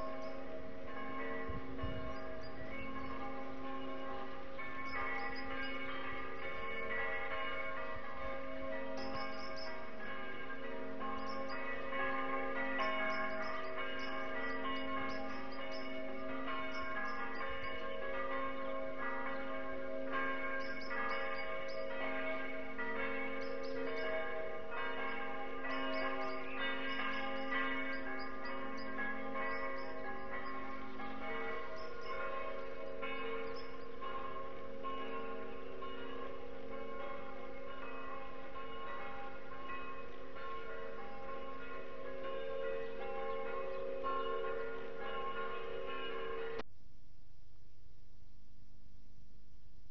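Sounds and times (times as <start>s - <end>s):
church bells ringing: 0.0s - 46.6s.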